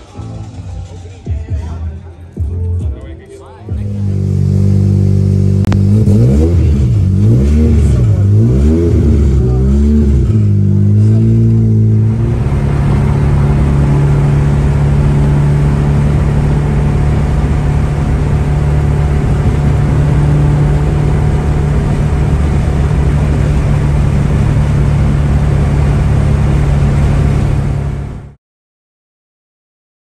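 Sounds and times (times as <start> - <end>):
car engine drone: 0.0 - 28.4
car engine revving: 3.7 - 28.4
road noise inside car: 3.7 - 28.4.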